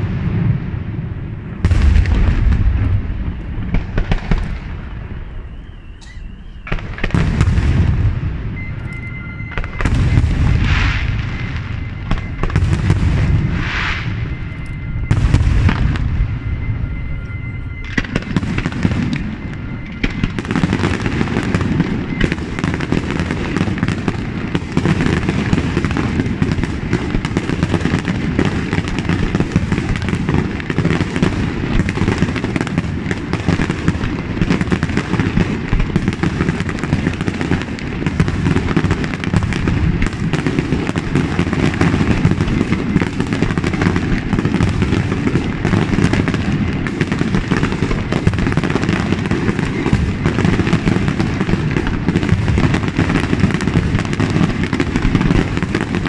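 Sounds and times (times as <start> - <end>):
deep firework booms: 0.0 - 56.0
fireworks bursting and crackling: 0.0 - 56.0.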